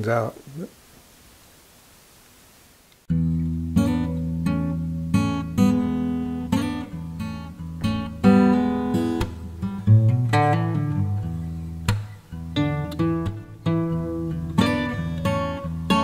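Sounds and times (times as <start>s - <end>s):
acoustic guitar strumming: 3.1s - 16.0s.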